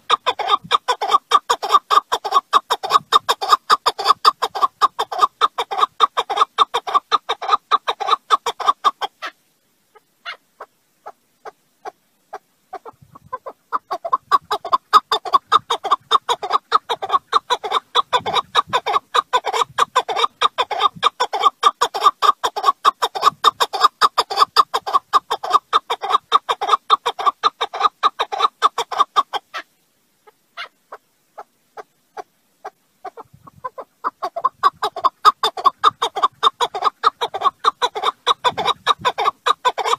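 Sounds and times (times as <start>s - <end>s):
partridge calling: 0.0s - 29.3s, 30.2s - 39.9s.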